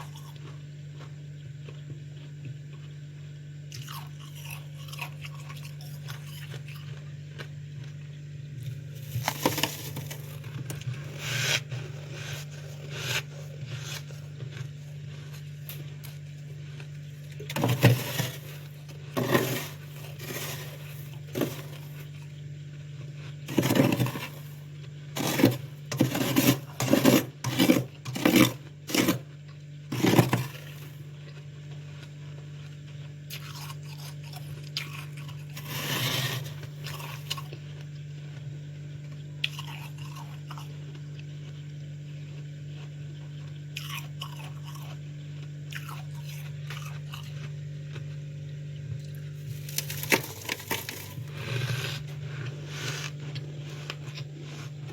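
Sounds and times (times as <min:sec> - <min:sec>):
freezer frost scraping and crunching: 0:00.0 - 0:03.0, 0:03.7 - 0:48.4, 0:49.0 - 0:54.9
steady low hum: 0:00.0 - 0:54.9.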